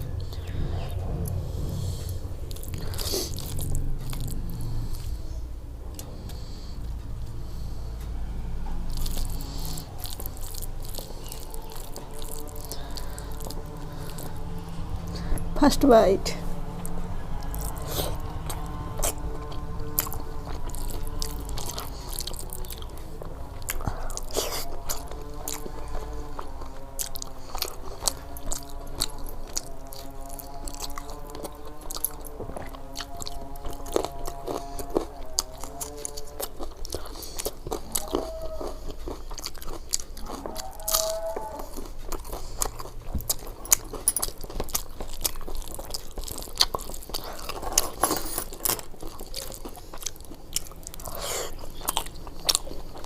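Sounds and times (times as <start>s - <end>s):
person chewing and crunching food: 0.0s - 53.0s.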